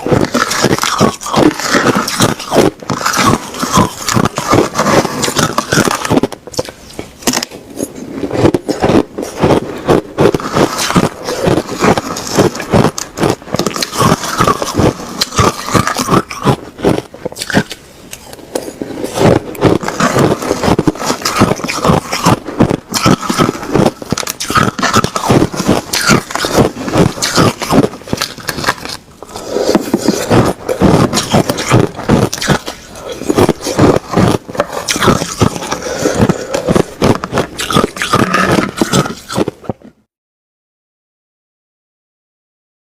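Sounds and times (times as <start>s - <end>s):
person crunching ice: 0.0s - 40.0s.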